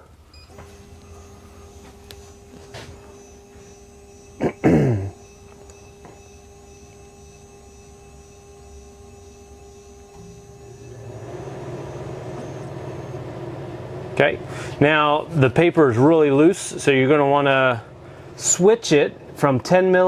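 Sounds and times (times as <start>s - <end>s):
stepper motor whine: 0.4s - 19.6s.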